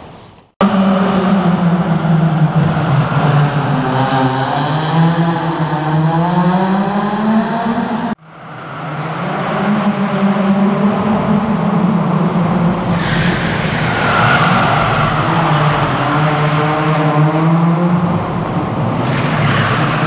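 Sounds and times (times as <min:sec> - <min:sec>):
rally car engine revving: 0:00.6 - 0:20.0.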